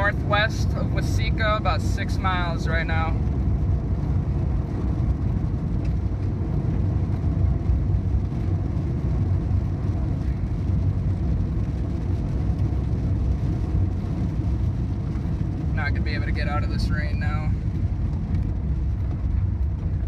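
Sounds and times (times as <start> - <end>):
car interior road rumble: 0.0 - 20.0.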